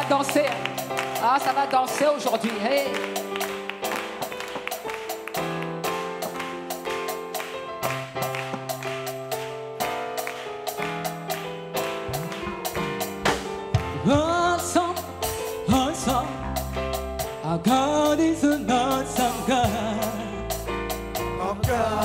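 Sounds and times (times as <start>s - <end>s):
gospel band playing: 0.0s - 22.0s.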